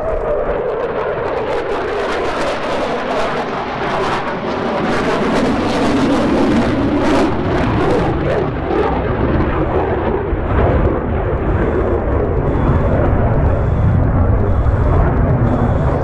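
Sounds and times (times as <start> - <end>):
jet engines in afterburner: 0.0 - 16.0.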